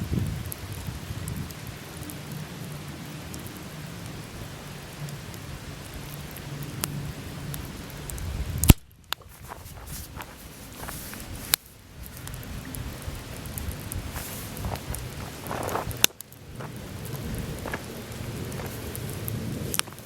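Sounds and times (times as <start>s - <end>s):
fire crackling and popping: 0.0s - 20.0s
fire hissing: 0.0s - 20.0s.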